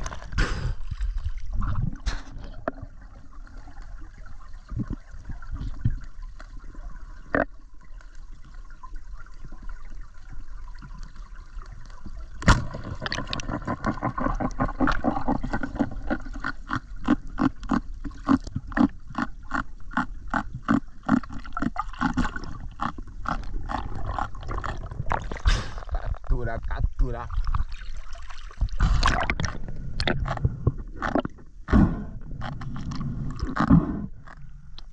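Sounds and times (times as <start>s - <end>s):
low underwater wash: 0.0s - 34.9s.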